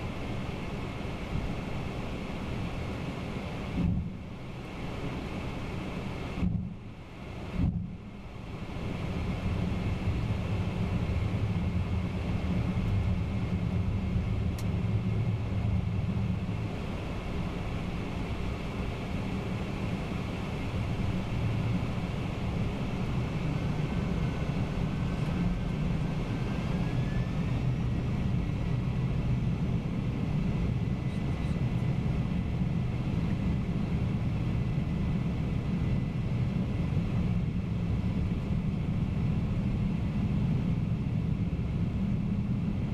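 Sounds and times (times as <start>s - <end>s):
jet airliner engine roar: 0.0s - 42.9s.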